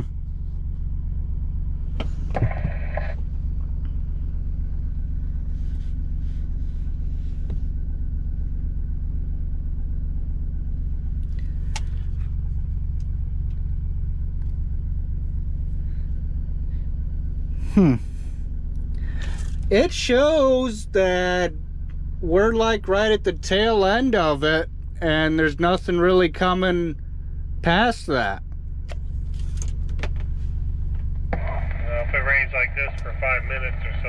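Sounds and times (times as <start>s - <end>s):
farm machine engine drone: 0.0s - 29.8s, 30.4s - 34.0s.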